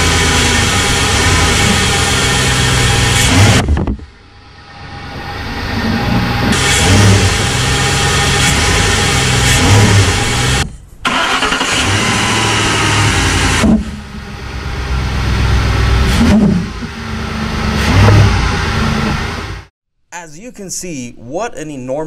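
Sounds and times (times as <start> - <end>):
engine revving: 0.0 - 19.7.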